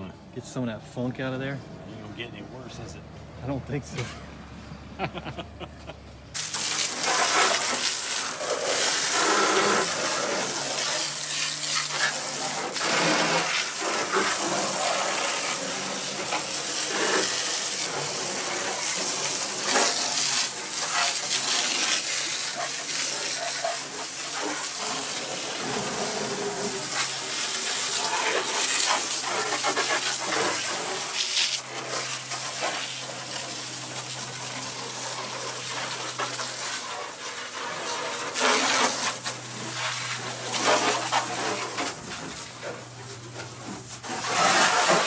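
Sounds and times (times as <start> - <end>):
water spraying onto floor: 6.4 - 45.0.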